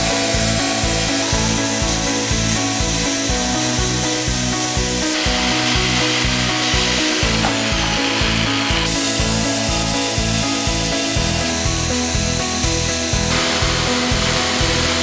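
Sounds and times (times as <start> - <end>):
background music with beat: 0.0 - 15.0
jigsaw cutting wood: 0.0 - 15.0.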